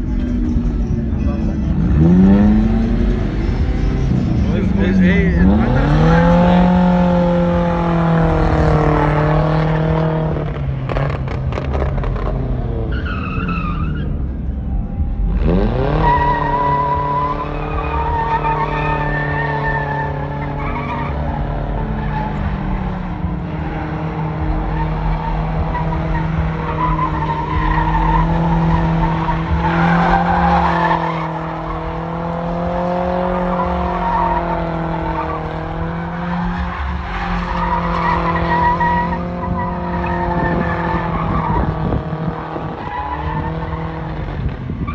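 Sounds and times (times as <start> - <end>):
truck engine revving: 0.0 - 14.4, 15.0 - 44.8
tires squealing on pavement: 1.7 - 3.9, 4.5 - 14.2, 15.3 - 44.9.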